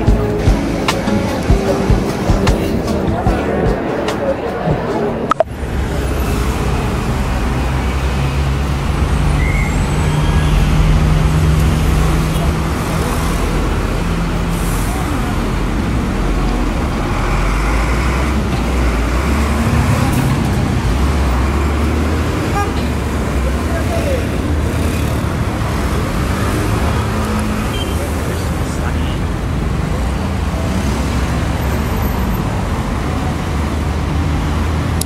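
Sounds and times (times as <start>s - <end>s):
rumble of passing traffic: 0.0s - 35.0s
vehicle engines running close by: 4.5s - 35.0s.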